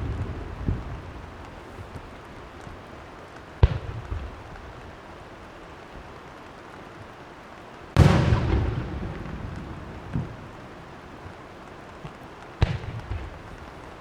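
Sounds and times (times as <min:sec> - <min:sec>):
fireworks exploding: 0:00.0 - 0:05.4, 0:07.9 - 0:14.0.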